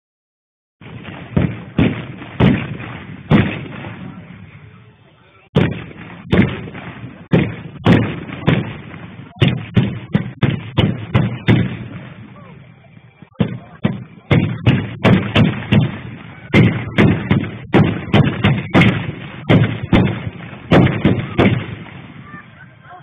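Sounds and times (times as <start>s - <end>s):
cannon bangs with echo: 0.8s - 4.6s, 5.5s - 12.6s, 13.3s - 22.6s.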